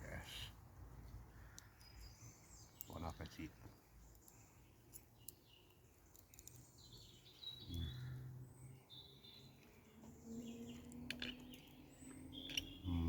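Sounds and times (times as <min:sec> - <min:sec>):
faint bird chirps: 0:01.3 - 0:13.0.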